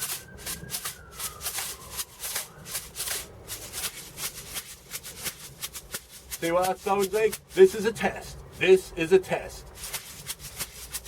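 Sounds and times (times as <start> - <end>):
pellets rattling in a shaker: 0.0 - 11.0.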